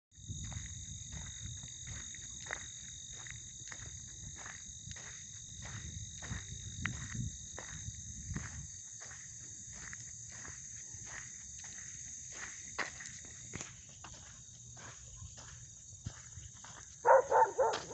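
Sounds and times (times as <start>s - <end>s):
crickets chirping: 0.1s - 17.9s
walking footsteps: 0.2s - 17.9s.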